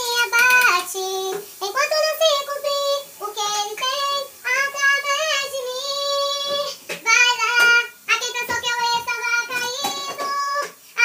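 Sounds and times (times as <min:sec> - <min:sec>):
high voice singing gospel: 0:00.0 - 0:11.0.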